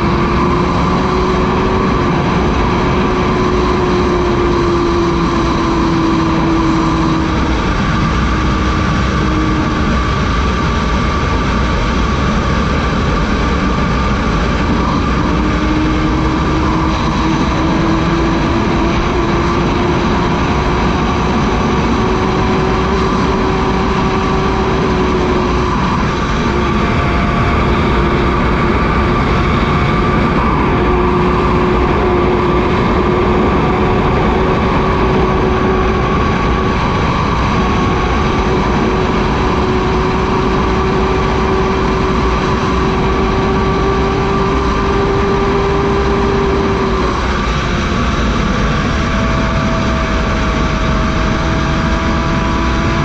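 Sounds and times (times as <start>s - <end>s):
heavy wind rush: 0.0s - 53.0s
motorcycle engine at high revs: 0.0s - 53.0s.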